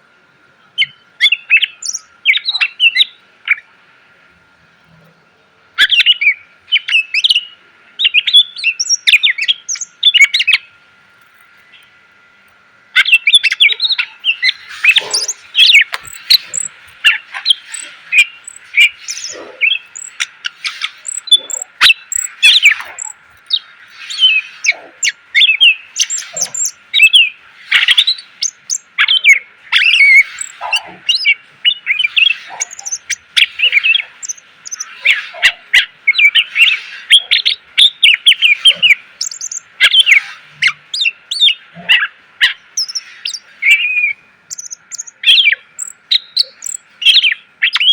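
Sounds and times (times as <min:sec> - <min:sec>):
songbird singing chirps and whistles: 0:00.6 - 0:03.8, 0:05.0 - 0:10.8, 0:12.9 - 0:47.9.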